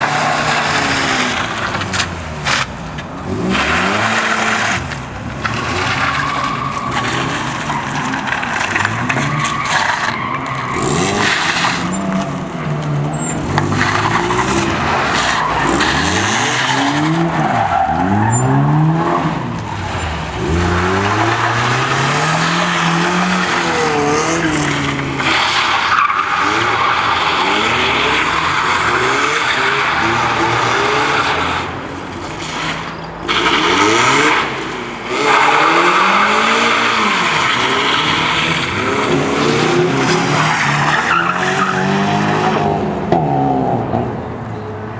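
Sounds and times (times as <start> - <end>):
car engine revving: 0.0 - 44.4.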